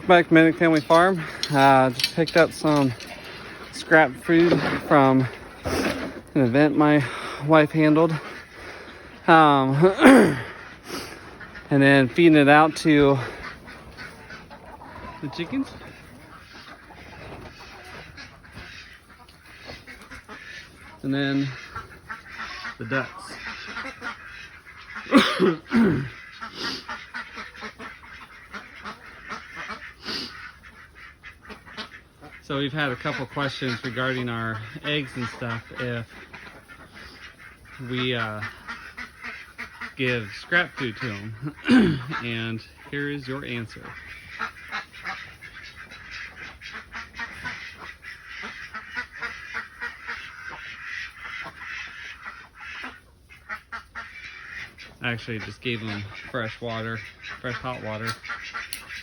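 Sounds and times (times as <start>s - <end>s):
ducks quacking: 0.0s - 59.0s.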